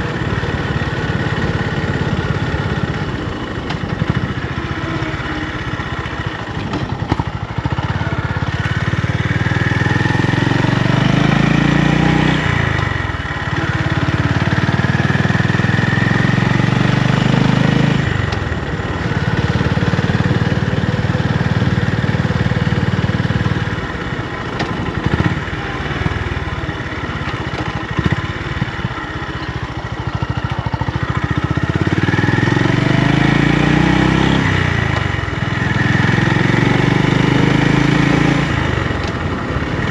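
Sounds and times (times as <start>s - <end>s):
single-cylinder motorcycle engine: 0.0s - 39.9s.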